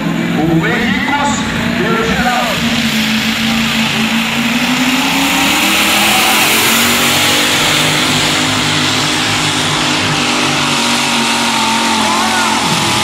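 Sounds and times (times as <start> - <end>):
tractor engine at high revs: 0.0 - 13.0.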